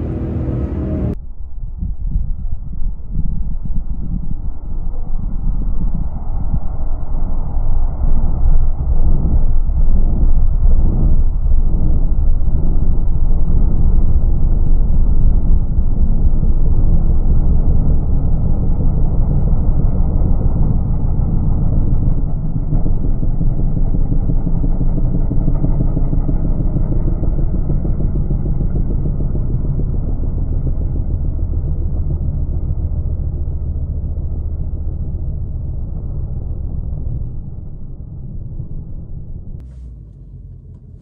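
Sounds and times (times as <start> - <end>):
loud deep car engine and exhaust: 0.0 - 41.0.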